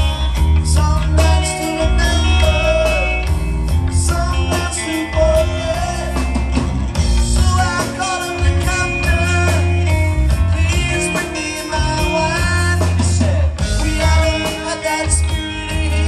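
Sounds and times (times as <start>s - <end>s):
heavy bass line: 0.0s - 16.0s
man singing: 0.0s - 16.0s
rock band playing: 0.0s - 16.0s.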